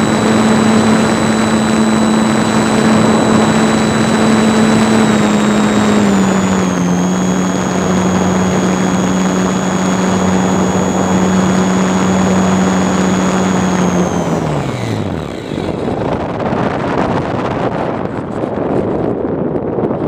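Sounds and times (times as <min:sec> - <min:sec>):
model plane motor whining: 0:00.0 - 0:16.2
wind on microphone: 0:00.0 - 0:20.0.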